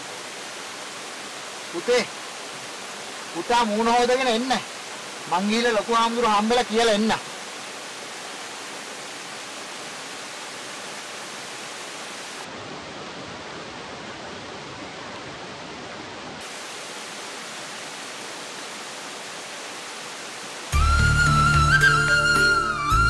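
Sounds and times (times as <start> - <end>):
stream flowing over rocks: 0.0 - 23.0.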